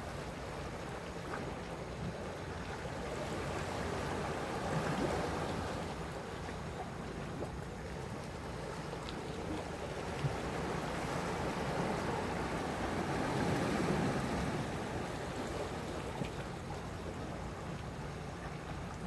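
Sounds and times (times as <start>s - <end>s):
sea waves washing: 3.1s - 19.0s.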